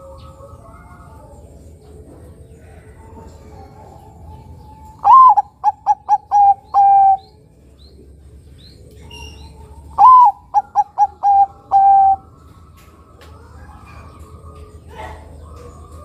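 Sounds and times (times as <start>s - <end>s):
dove cooing: 0.0s - 12.6s, 13.4s - 16.0s.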